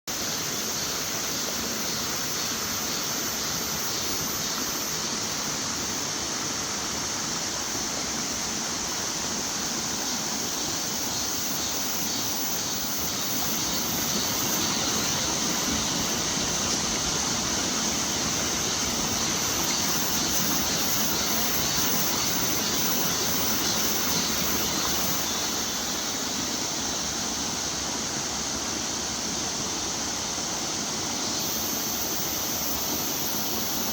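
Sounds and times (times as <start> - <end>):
small waterfall rushing: 0.1 - 33.9.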